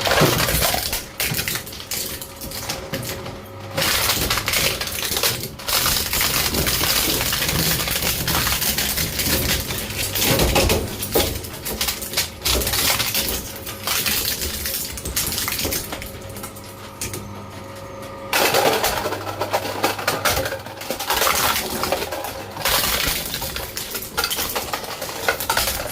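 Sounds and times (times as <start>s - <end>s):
shredder crunching plastic: 0.0s - 25.9s
shredder motor hum: 0.0s - 25.9s.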